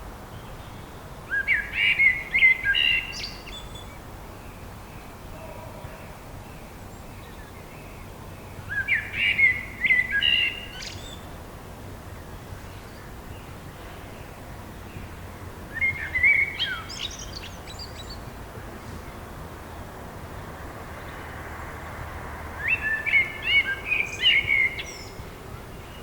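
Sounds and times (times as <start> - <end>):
forest background hiss: 0.0 - 26.0
songbird chirping: 0.2 - 26.0.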